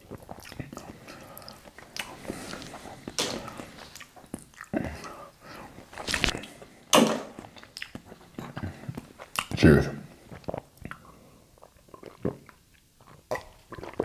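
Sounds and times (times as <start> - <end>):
man chewing with mouth smacks: 0.0 - 14.0.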